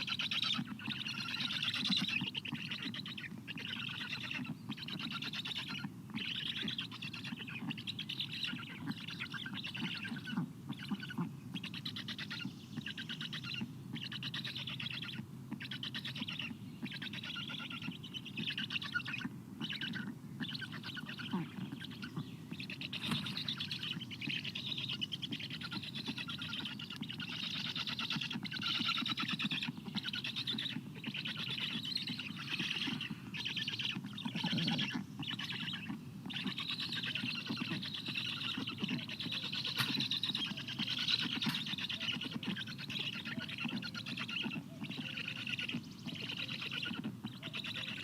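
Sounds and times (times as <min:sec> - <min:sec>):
stork chicks raspy begging chatter: 0:00.0 - 0:48.0.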